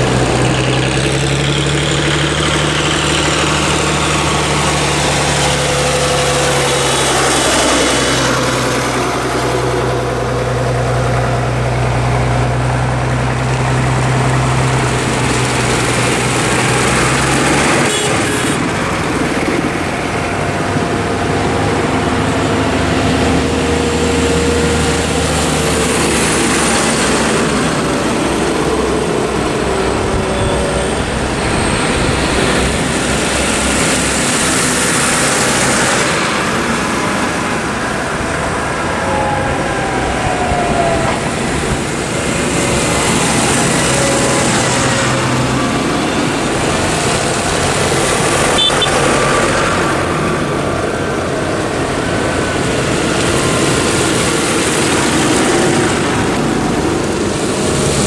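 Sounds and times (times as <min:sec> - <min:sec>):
tractors driving past: 0:00.0 - 0:58.0.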